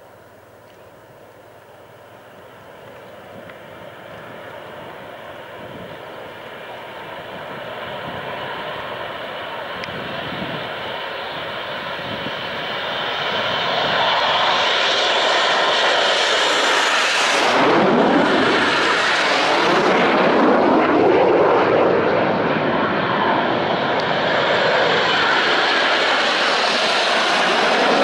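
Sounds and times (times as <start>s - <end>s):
jets taking off roaring: 2.8s - 28.0s.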